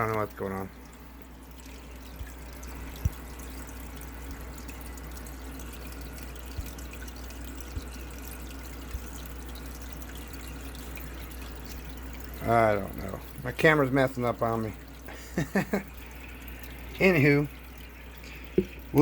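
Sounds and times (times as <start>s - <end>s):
aquarium water trickling: 0.0s - 19.0s
constant low hum: 0.0s - 19.0s.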